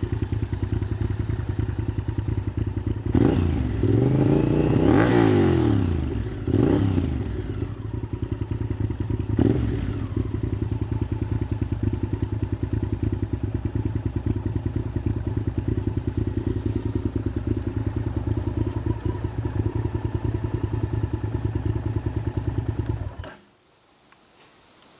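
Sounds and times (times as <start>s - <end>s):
motorcycle engine revving and idling: 0.0s - 23.4s.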